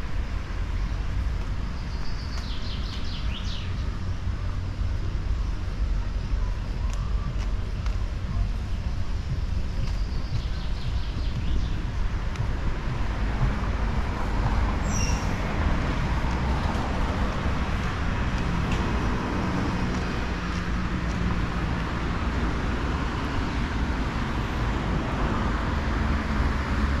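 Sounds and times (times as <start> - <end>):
road traffic hiss: 0.0 - 27.0
vehicles rumbling past: 0.0 - 27.0.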